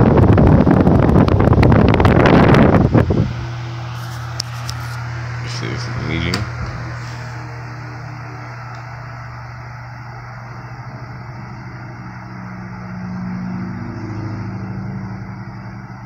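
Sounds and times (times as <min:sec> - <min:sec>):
electric fan humming and blowing: 0:00.0 - 0:16.0.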